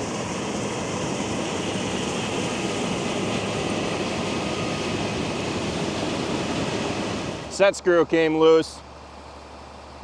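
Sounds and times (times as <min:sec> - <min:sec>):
heavy farm machinery running: 0:00.0 - 0:10.0.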